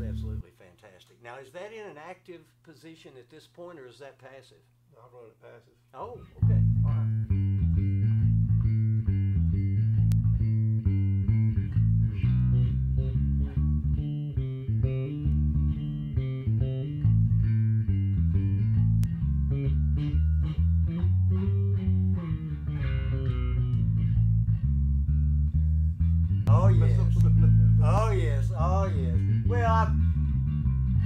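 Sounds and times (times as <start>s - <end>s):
electric bass plucked notes: 0.0s - 0.4s, 6.2s - 31.0s.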